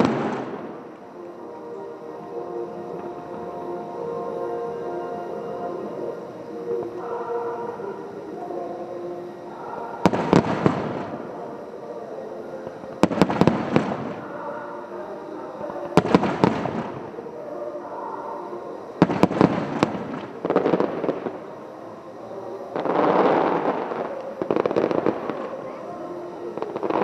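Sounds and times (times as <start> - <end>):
steady music: 0.0 - 26.8
fireworks bursting: 0.0 - 27.0.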